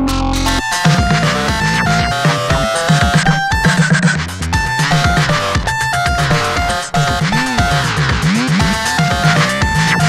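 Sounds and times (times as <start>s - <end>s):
pulsing bass line: 0.0s - 10.0s
synth notes stepping: 0.5s - 10.0s
low falling thumps: 0.6s - 10.0s.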